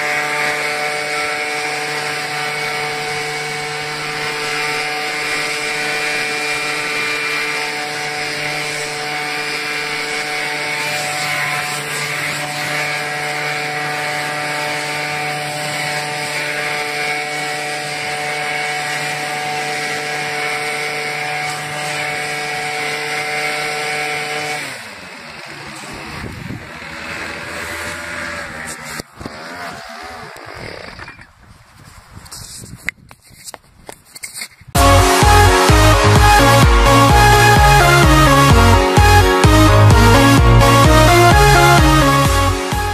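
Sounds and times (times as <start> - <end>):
leaf blower engine running: 0.0 - 31.2, 34.8 - 42.9.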